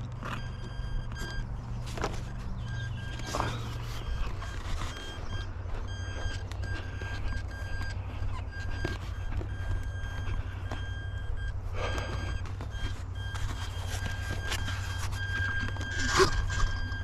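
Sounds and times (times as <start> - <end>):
electronic beeper beeping: 0.0 - 17.0.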